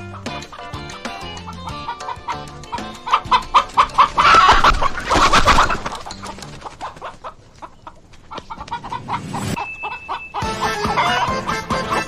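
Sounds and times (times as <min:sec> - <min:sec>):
chickens clucking and squawking: 0:00.0 - 0:12.0.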